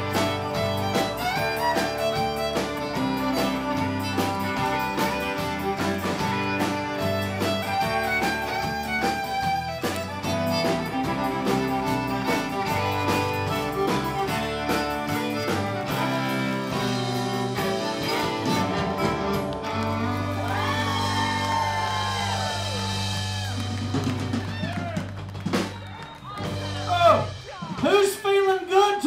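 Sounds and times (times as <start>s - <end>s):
acoustic guitar: 0.0s - 25.6s
keyboard: 0.0s - 27.4s
fiddle lead: 0.0s - 28.7s
drum kit beat: 0.0s - 29.0s.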